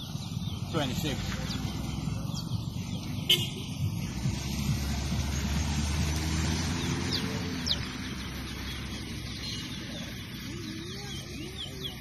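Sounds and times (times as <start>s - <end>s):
bird chirps: 0.0s - 12.0s
vehicle engine idling: 0.0s - 12.0s.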